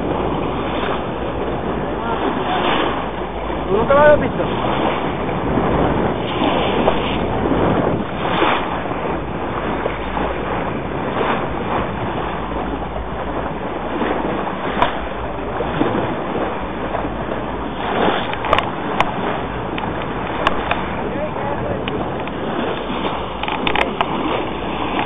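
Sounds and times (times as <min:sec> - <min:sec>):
water washing around boat: 0:00.0 - 0:25.0
wind on microphone: 0:00.0 - 0:25.0.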